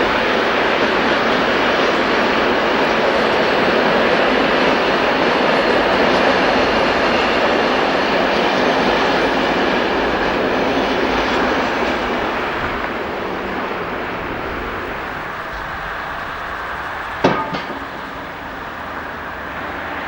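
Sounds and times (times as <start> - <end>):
train wheels clattering on rails: 0.0 - 20.0.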